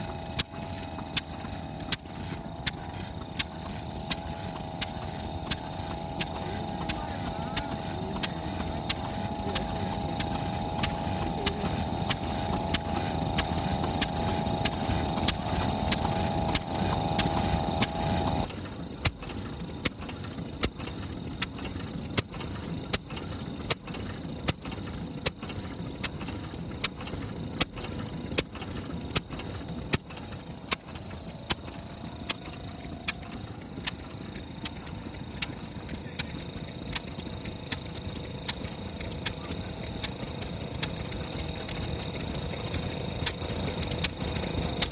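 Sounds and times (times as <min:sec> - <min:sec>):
machine whine: 0:00.0 - 0:44.9
stationary engine knocking: 0:00.0 - 0:44.9.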